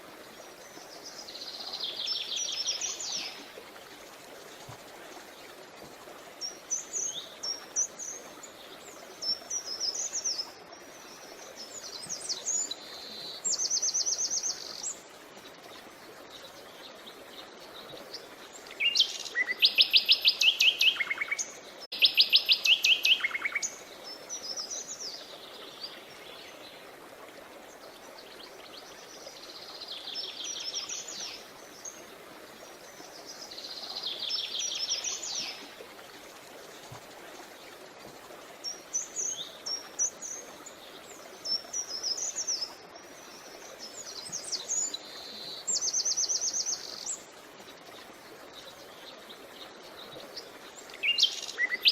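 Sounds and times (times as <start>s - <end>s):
flowing creek: 0.0s - 51.9s.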